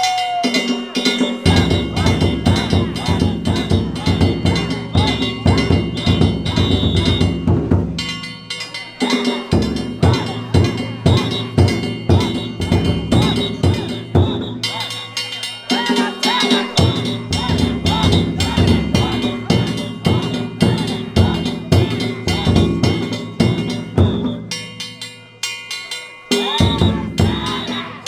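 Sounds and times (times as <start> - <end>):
taiko drum beaten fast: 0.0 - 25.1, 26.4 - 28.0
ringing gongs: 0.0 - 28.0.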